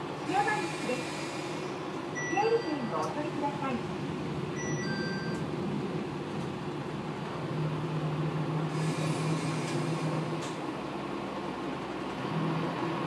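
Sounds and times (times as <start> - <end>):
railcar engine hum and rumble: 0.0 - 13.0.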